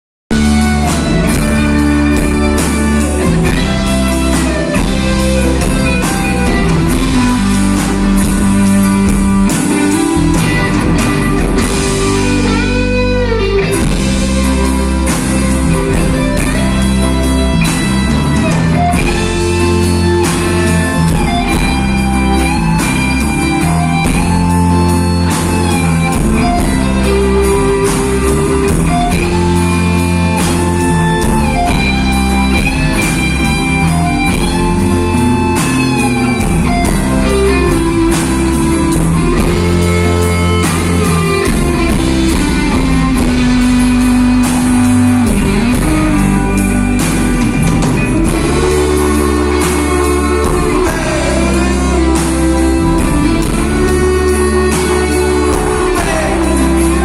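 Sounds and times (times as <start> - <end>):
electric guitar lead: 0.3 - 57.0
rock band playing: 0.3 - 57.0.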